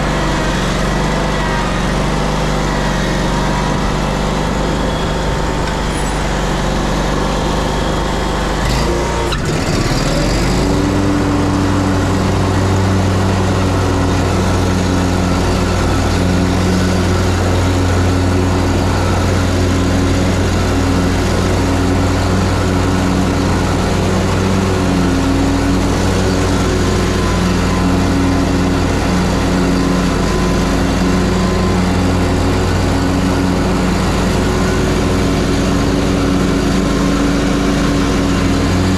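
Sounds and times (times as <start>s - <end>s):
mower engine running: 0.0s - 38.9s.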